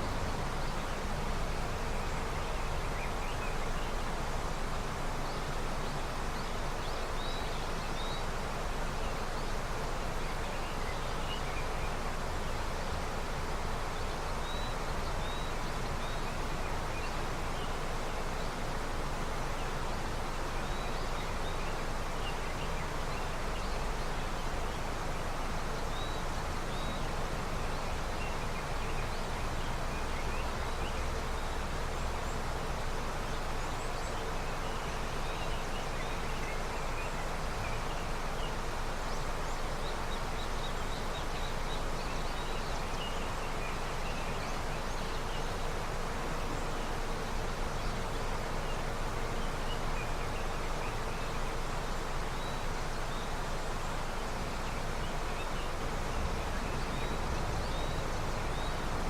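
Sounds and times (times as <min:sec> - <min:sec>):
river rushing: 0:00.0 - 0:59.0
small birds chirping faintly: 0:00.0 - 0:59.0.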